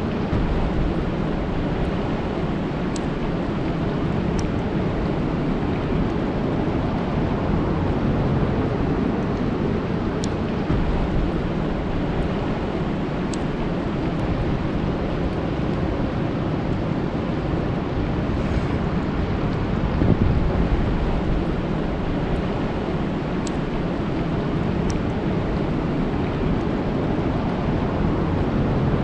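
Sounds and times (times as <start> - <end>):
rain falling on a lake: 0.0 - 18.2, 19.0 - 29.0.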